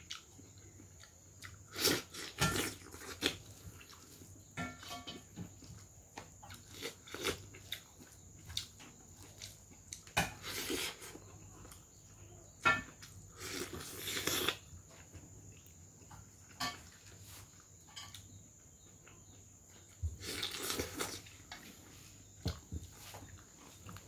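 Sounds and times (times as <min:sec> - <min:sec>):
person chewing food: 0:00.0 - 0:12.0, 0:12.9 - 0:24.0.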